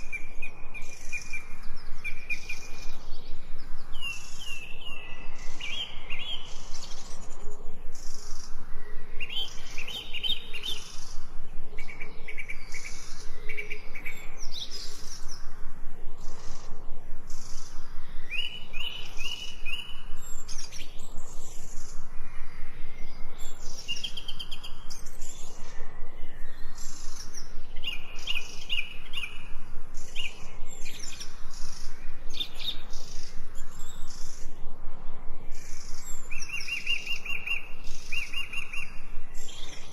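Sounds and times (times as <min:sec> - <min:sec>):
birds chirping and singing: 0:00.0 - 0:39.9
outdoor background hiss: 0:00.0 - 0:39.9.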